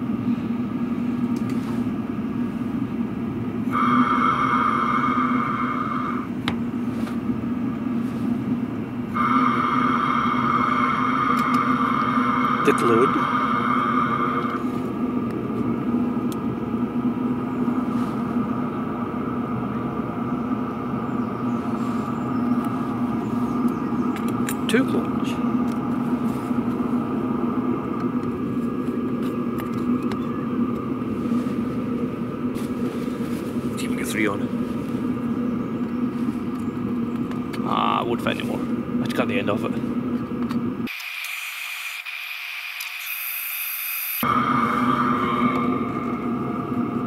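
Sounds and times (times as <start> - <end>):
high whine: 0.0 - 40.2, 41.8 - 47.0
heater exhaust humming: 0.0 - 47.0.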